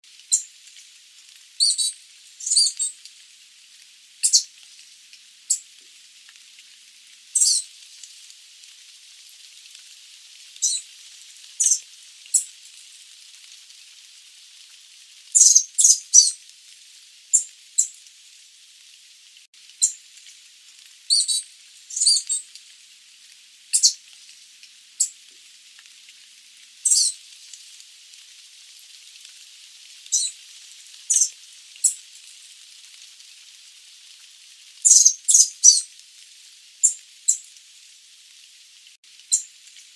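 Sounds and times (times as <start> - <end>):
steady high hiss: 0.1 - 39.9.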